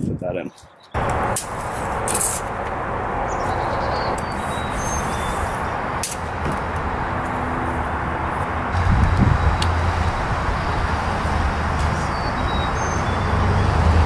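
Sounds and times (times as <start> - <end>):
steady outdoor rushing noise: 0.9 - 14.0.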